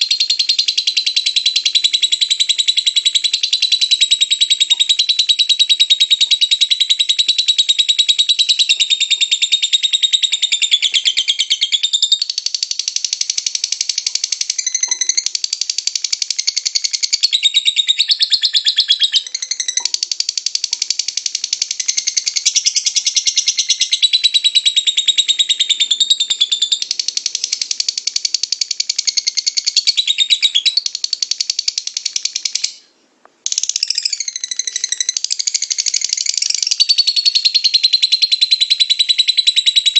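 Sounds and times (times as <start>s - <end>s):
lovebird chattering: 0.0s - 32.8s, 33.5s - 39.9s.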